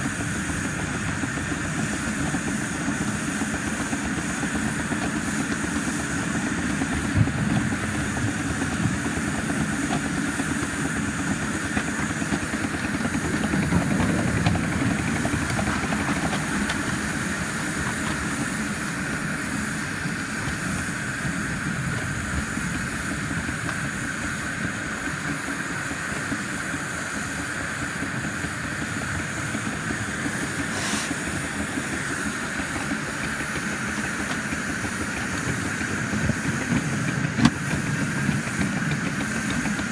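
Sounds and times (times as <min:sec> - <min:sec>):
steam hissing: 0:00.0 - 0:39.9
wheels rumbling on rails: 0:00.0 - 0:39.9.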